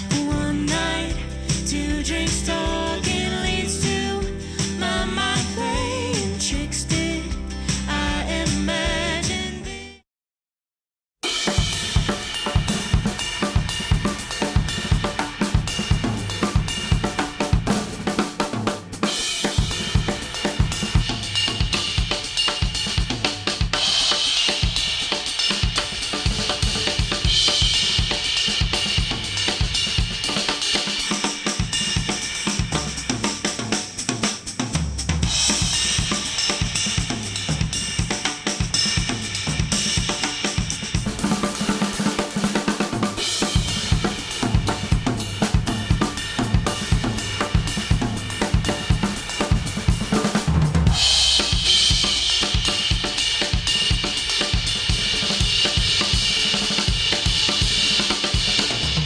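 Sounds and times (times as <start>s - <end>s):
instrumental music with drum kit: 0.0s - 9.7s, 11.2s - 59.0s.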